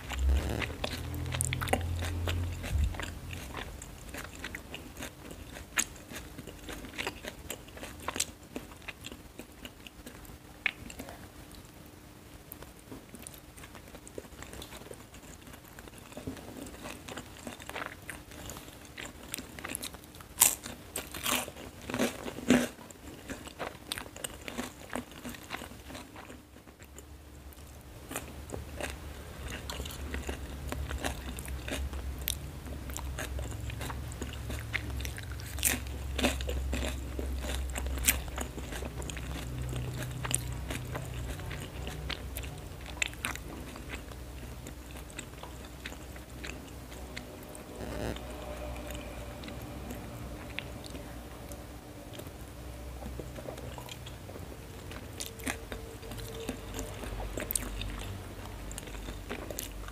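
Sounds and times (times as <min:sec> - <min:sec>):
crunchy chewing: 0:00.0 - 0:11.3, 0:12.5 - 0:52.3, 0:53.0 - 0:59.9
steady low hum: 0:00.0 - 0:59.9.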